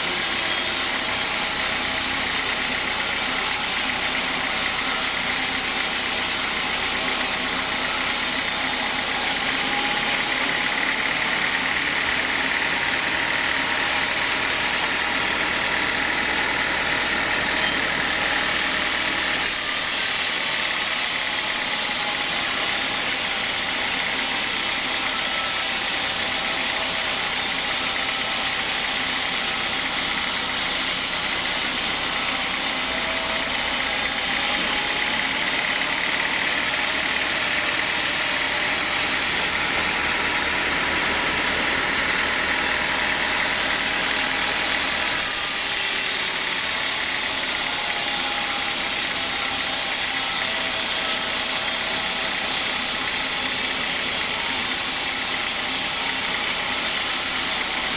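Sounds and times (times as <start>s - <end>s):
sawmill machinery hissing: 0.0s - 57.9s.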